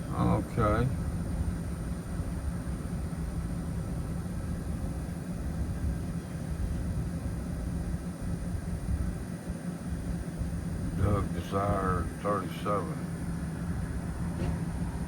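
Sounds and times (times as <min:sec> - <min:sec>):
climate-control blower hiss: 0:00.0 - 0:15.0
pickup truck idling: 0:00.0 - 0:15.0.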